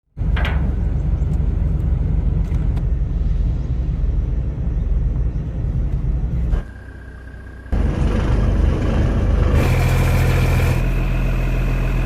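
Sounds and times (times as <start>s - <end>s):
boat engine throbbing: 0.2s - 12.0s.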